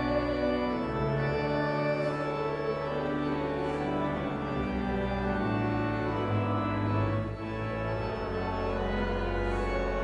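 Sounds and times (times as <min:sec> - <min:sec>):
church organ chords: 0:00.0 - 0:10.0.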